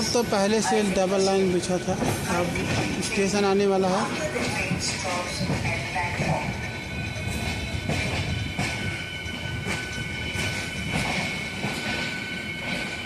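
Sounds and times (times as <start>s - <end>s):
train rumbling on rails: 0.0s - 13.0s
wheels clacking on rails: 0.0s - 13.0s.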